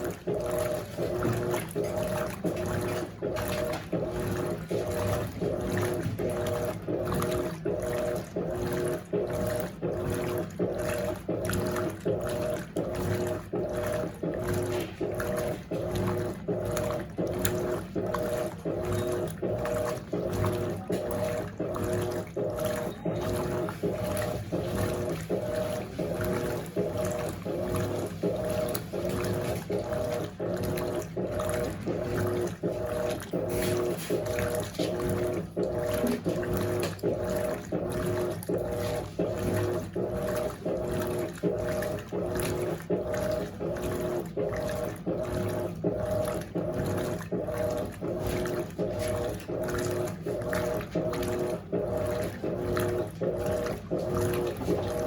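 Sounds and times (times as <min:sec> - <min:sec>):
washing machine motor humming: 0:00.0 - 0:55.0
water sloshing in washing machine: 0:00.0 - 0:55.0.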